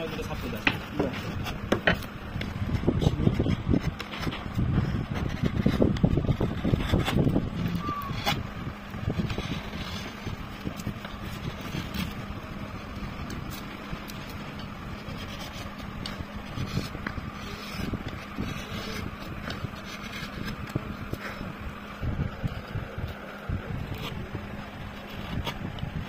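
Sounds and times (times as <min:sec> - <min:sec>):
chisel scraping wood: 0:00.0 - 0:21.6, 0:22.4 - 0:26.0
faint hum: 0:00.0 - 0:26.0.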